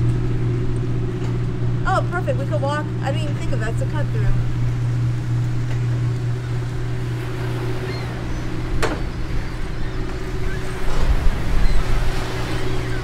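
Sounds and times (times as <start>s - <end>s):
engine humming: 0.0s - 13.0s
low rumbling: 0.0s - 13.0s.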